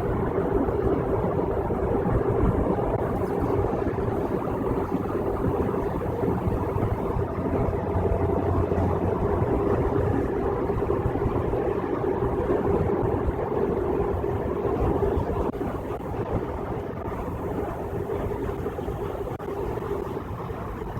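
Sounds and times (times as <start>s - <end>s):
constant low hum: 0.0s - 20.9s
engine drone: 0.0s - 20.9s
tyres on the road: 0.0s - 20.9s.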